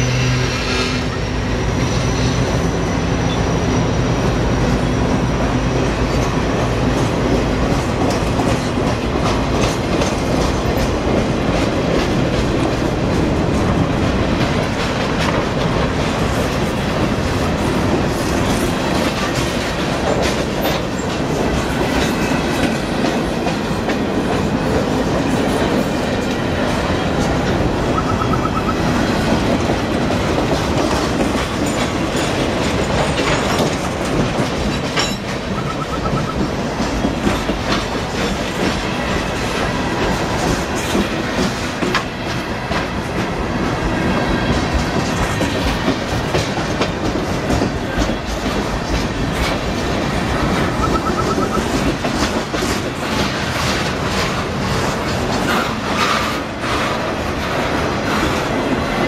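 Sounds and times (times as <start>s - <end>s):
freight train rumbling past: 0.0s - 59.0s
wheels clacking over rail joints: 5.1s - 59.0s.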